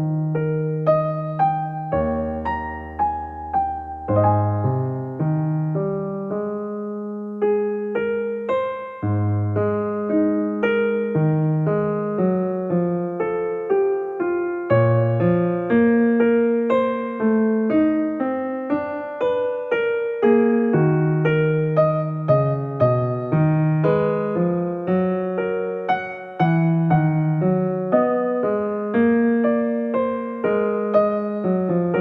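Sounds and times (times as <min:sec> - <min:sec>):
relaxing piano-like keyboard music: 0:00.0 - 0:32.0.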